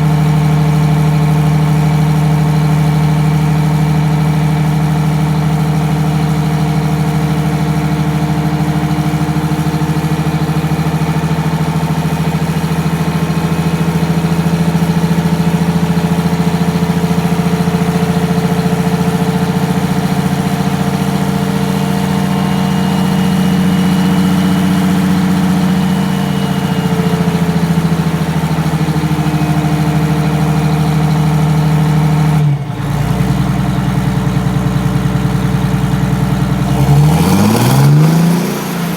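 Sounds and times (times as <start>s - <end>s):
diesel bus engine idling: 0.0s - 38.9s.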